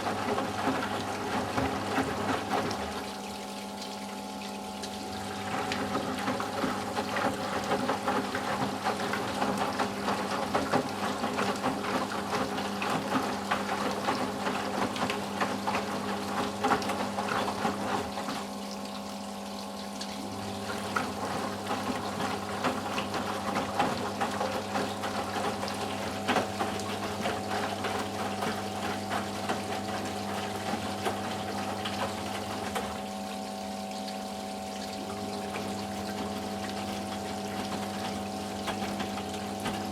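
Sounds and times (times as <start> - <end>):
washing machine water sloshing: 0.0 - 39.9.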